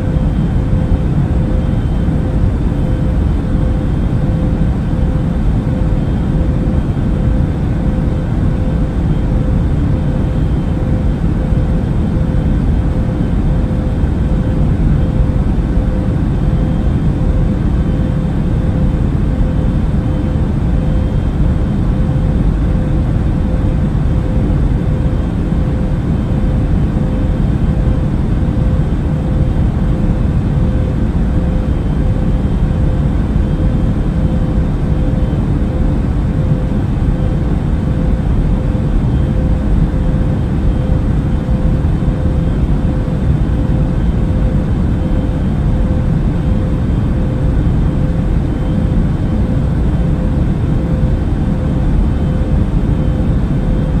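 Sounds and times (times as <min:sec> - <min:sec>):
faint steady hum: 0:00.0 - 0:54.0
jet engines and airflow rumble: 0:00.0 - 0:54.0.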